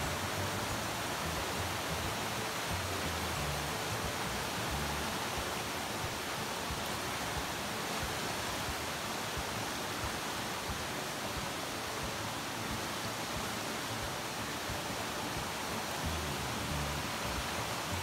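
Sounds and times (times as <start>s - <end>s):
stream rushing: 0.0s - 18.0s.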